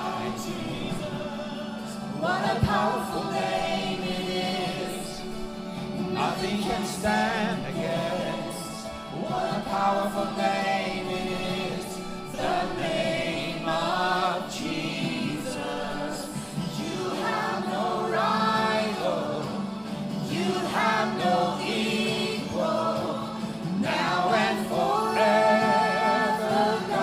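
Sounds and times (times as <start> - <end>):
group singing gospel song: 0.0 - 27.0
held instrumental backing: 0.0 - 27.0.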